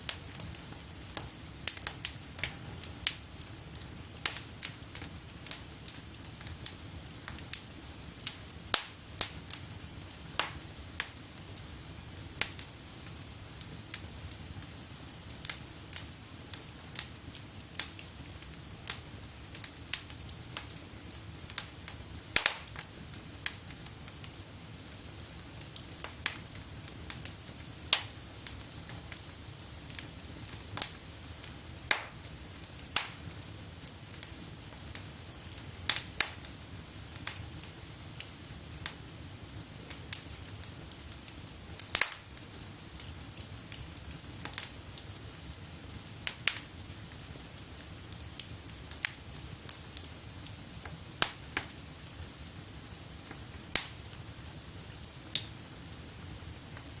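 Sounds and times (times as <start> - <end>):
fire crackling and popping: 0.0 - 57.0
flames rustling: 0.0 - 57.0.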